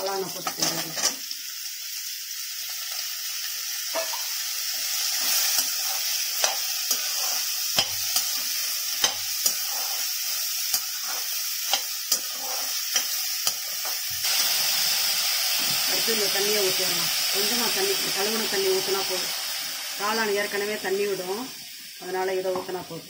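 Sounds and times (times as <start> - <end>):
mushrooms sizzling in hot oil: 0.0 - 23.0.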